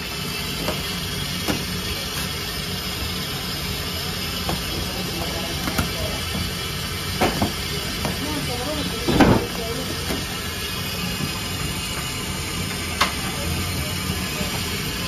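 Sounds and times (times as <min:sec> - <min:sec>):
bakery machinery hiss and hum: 0:00.0 - 0:15.0.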